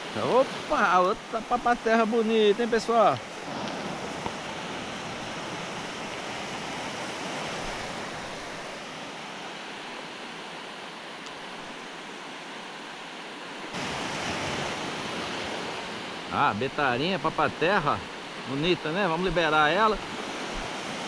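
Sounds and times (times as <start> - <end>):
waves washing on beach: 0.0 - 21.0.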